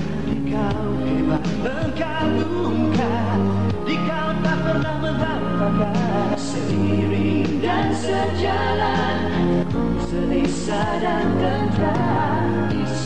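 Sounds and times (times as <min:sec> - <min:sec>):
pop ballad with singer and band: 0:00.0 - 0:13.0.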